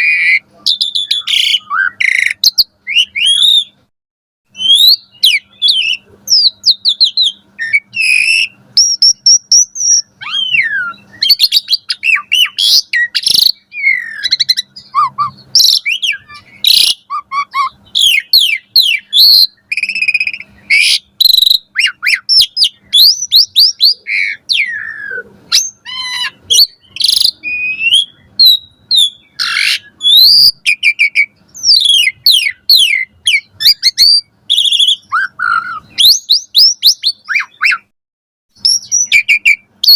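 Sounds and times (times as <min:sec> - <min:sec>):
bird singing varied song: 0:00.0 - 0:03.9, 0:04.5 - 0:37.9, 0:38.5 - 0:39.9.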